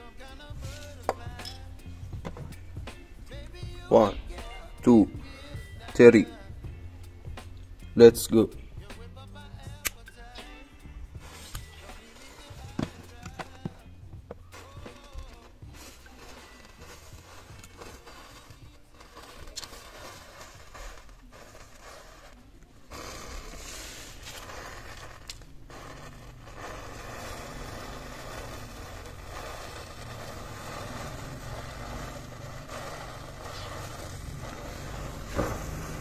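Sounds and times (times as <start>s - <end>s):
matches burning with hissing crackle: 0.0s - 6.5s, 7.4s - 36.0s.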